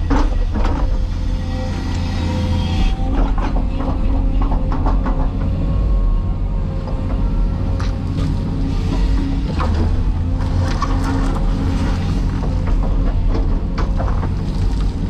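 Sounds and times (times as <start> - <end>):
excavator diesel engine: 0.0 - 15.0
hydraulic whine: 0.0 - 15.0.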